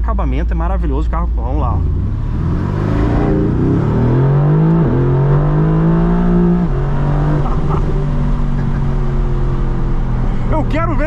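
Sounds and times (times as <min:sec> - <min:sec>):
car engine accelerating: 0:00.5 - 0:11.0.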